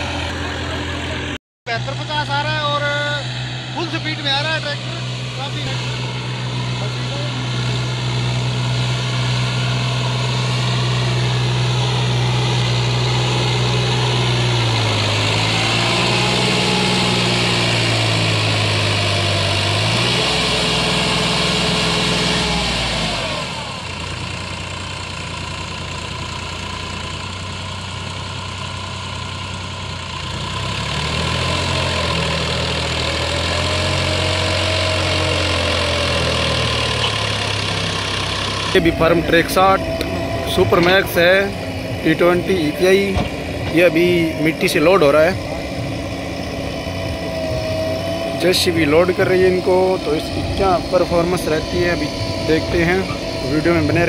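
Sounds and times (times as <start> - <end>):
diesel tractor engine labouring: 0.0 - 54.0.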